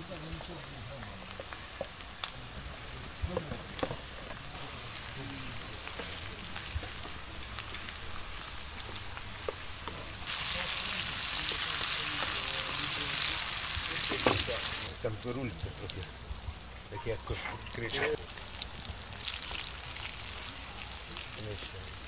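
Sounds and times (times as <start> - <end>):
sausage and onions sizzling in pan: 0.0 - 22.0.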